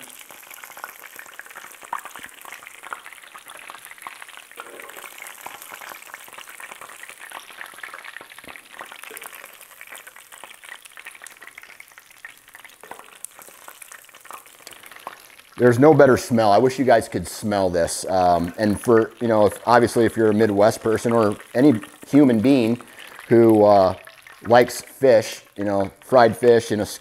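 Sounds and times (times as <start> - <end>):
fish frying in oil: 0.0 - 27.0.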